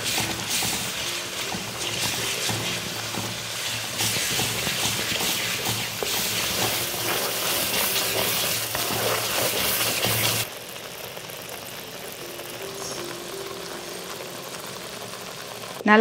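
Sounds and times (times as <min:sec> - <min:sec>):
garlic sizzling in hot oil: 0:00.0 - 0:16.0.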